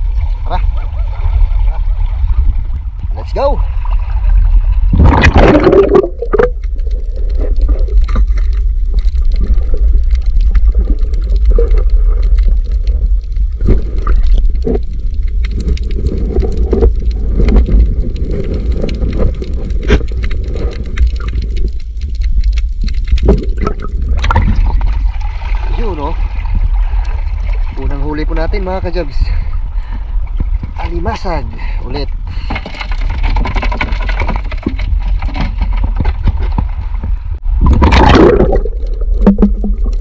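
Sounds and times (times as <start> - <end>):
bubbling gurgles: 0.0 - 30.7, 37.4 - 40.0
microphone going underwater rush: 0.0 - 40.0
muffled underwater rumble: 0.0 - 40.0.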